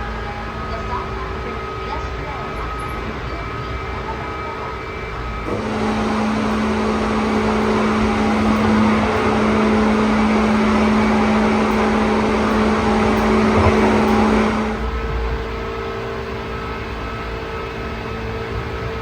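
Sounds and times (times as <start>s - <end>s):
train interior rushing: 0.0s - 19.0s.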